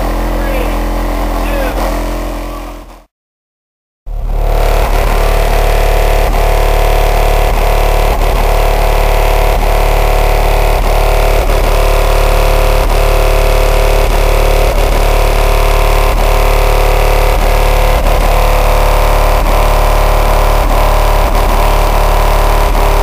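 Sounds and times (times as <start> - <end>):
distorted loud bass tone: 0.0 - 3.1, 4.1 - 23.0.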